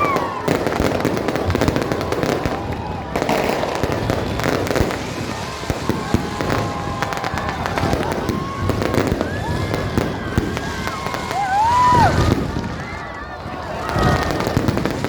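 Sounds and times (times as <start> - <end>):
fireworks popping and crackling: 0.0 - 15.0
voices: 0.0 - 15.0.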